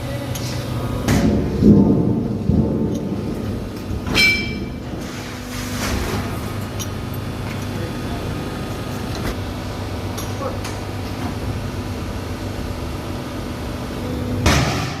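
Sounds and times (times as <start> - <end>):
metalworking machine humming: 0.0 - 15.0.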